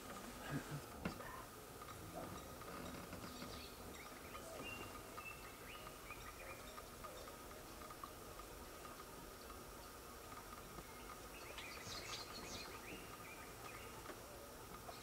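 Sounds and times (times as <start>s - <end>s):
low steady background: 0.0s - 15.0s
distant bird chirps: 2.2s - 15.0s.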